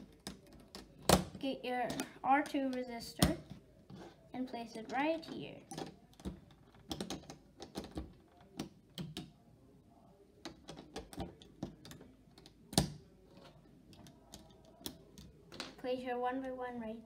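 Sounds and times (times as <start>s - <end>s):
plastic parts clicking and tapping: 0.0s - 4.1s, 4.7s - 9.4s, 10.4s - 15.8s.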